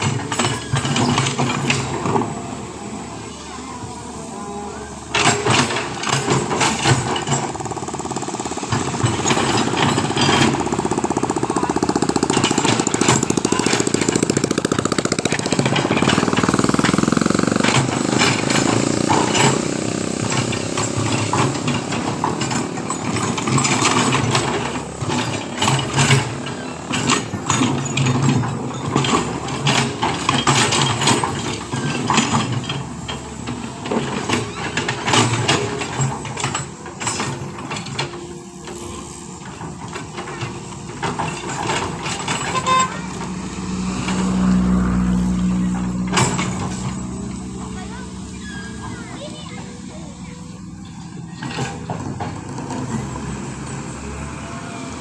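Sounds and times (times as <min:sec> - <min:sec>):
heavy diesel engine running: 0:00.0 - 0:55.0
sharp knocks and clanks: 0:05.1 - 0:54.3.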